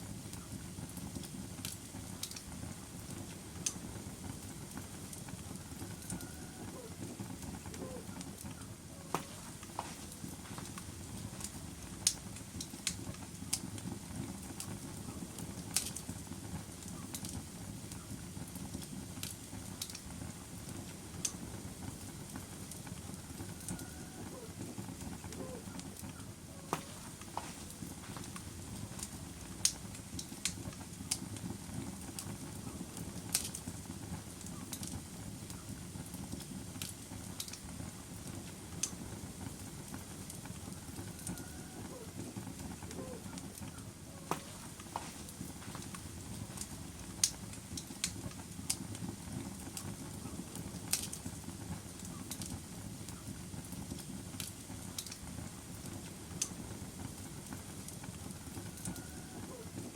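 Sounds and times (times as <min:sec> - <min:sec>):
log fire crackling: 0:00.0 - 0:59.9
low rumble of burning: 0:00.0 - 0:59.9.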